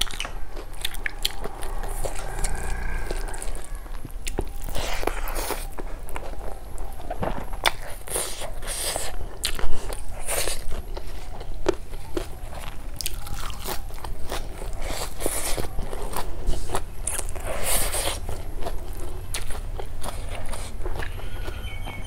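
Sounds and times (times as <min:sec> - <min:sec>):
chewing and mouth noises: 0:00.0 - 0:22.0.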